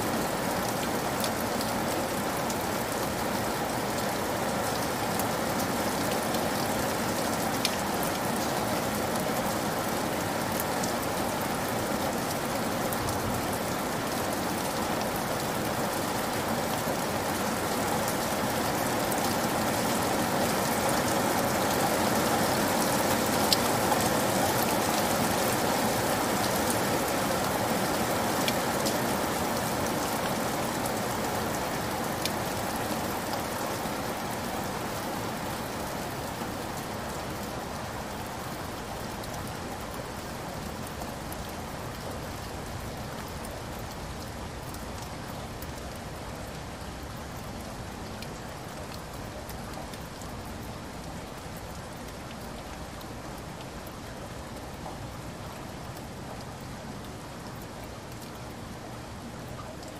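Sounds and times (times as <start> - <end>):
heavy rain splashing: 0.0 - 59.9.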